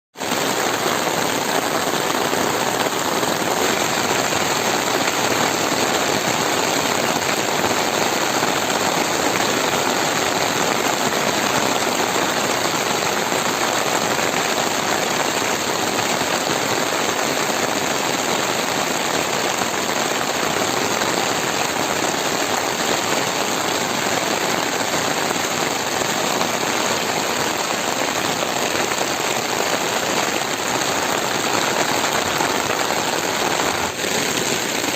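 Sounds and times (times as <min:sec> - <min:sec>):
heavy rain on foliage: 0:00.1 - 0:34.9.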